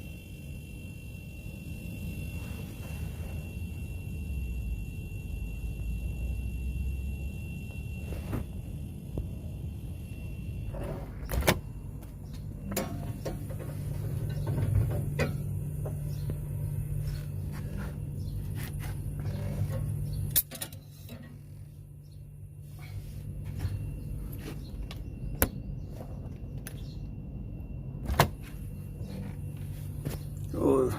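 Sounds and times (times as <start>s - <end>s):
compressor humming: 0.0s - 30.9s.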